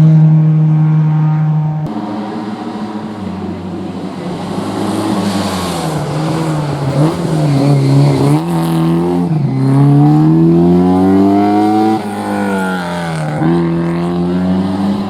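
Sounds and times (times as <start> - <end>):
rally car engine changing gears: 0.0 - 15.0
rally car engine high revs: 0.0 - 15.0.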